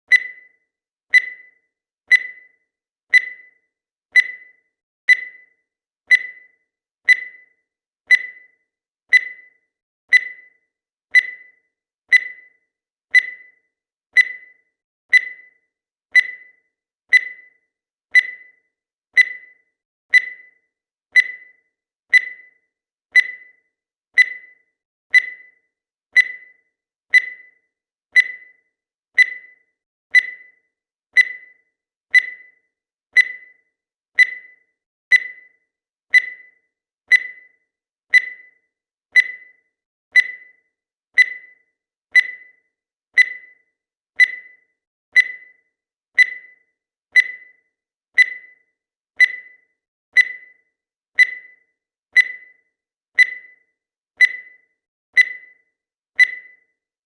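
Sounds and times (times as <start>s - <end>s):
countdown timer beeps: 0.1s - 56.9s.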